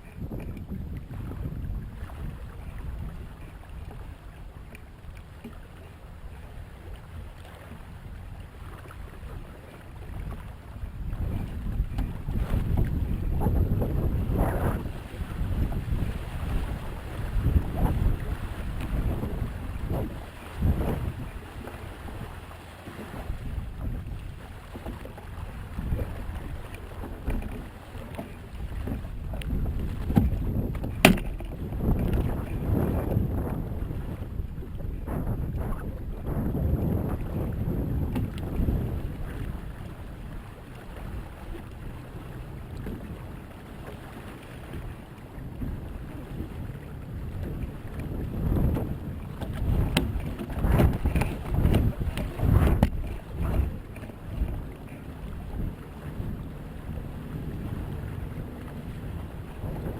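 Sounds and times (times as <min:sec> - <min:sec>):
water washing along a kayak: 0:00.0 - 0:59.9
wind rumbling on microphone: 0:00.0 - 0:59.9.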